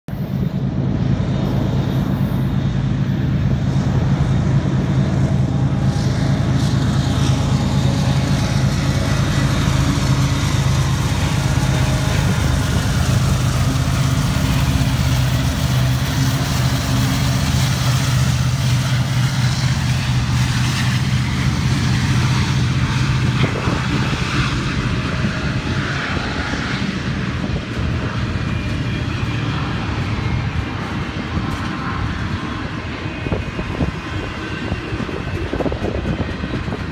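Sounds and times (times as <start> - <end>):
diesel locomotive engine drone: 0.0 - 36.9
train wheels on rails: 0.1 - 36.9.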